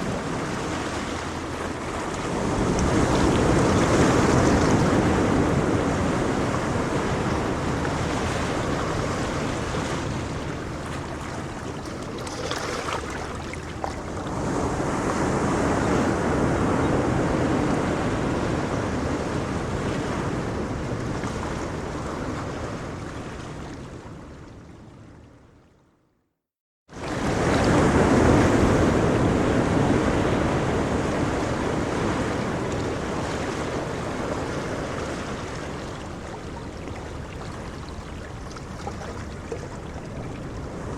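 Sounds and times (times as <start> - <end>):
wind on microphone: 0.0 - 24.3, 27.0 - 40.9
ocean waves breaking on shore: 0.0 - 25.3, 26.9 - 40.9.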